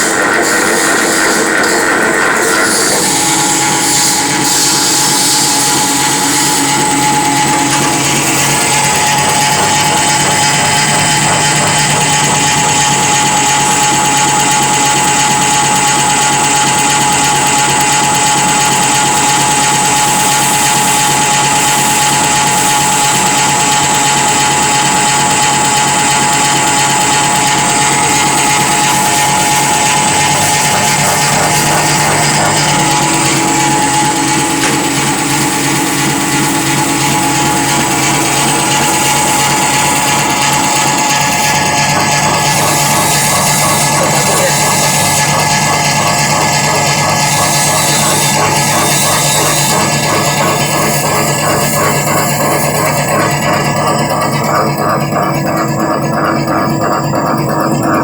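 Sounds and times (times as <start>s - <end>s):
pellet press motor whine: 0.0s - 58.0s.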